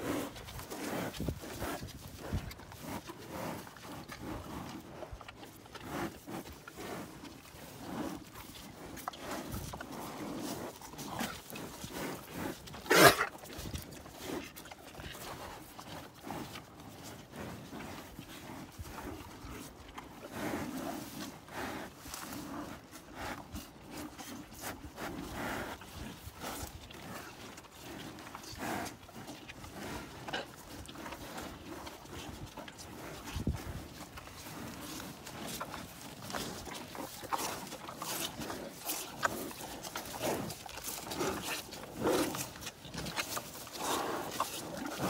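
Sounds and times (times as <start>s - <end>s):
cattle snuffling and chewing: 0.0s - 45.0s.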